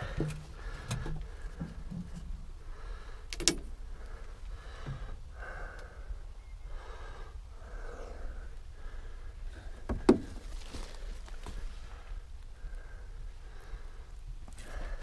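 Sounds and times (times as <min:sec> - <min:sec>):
person breathing: 0:00.0 - 0:15.0.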